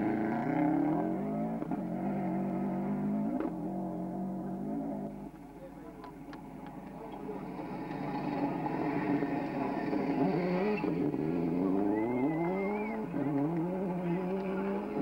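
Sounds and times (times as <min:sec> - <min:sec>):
rally car engine accelerating: 0:00.0 - 0:05.5, 0:06.2 - 0:15.0.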